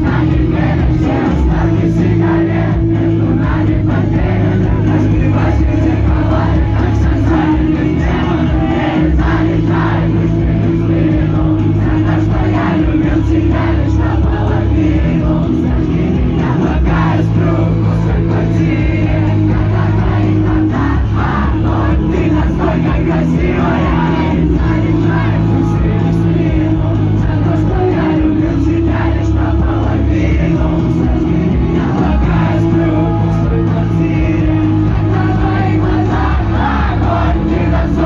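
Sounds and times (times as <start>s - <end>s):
crowd singing along: 0.0s - 38.0s
live rock band playing: 0.0s - 38.0s.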